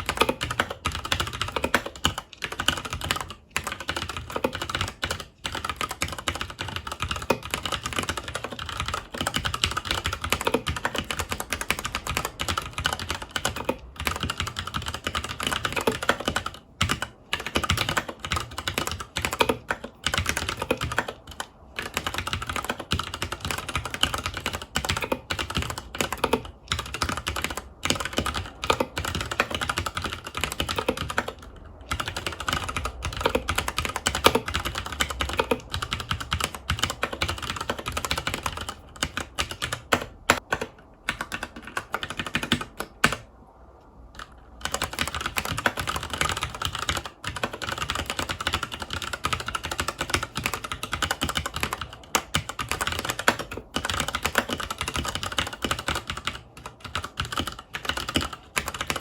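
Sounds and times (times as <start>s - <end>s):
mechanical keyboard typing: 0.0s - 43.3s, 44.2s - 59.0s.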